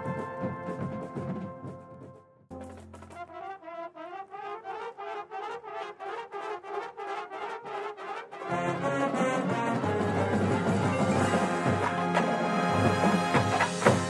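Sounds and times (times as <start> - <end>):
brass corps playing: 0.0 - 2.1, 3.2 - 14.0.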